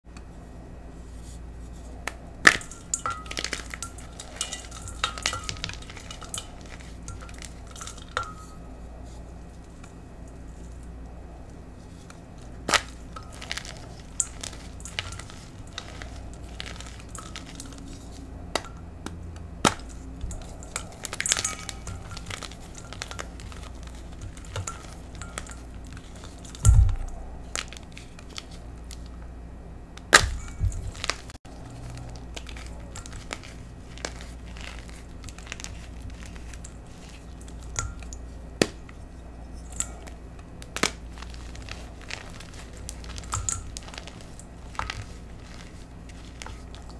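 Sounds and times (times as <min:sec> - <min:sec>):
chalk cracking and crumbling: 0:01.1 - 0:11.0, 0:11.8 - 0:29.2, 0:30.1 - 0:46.9.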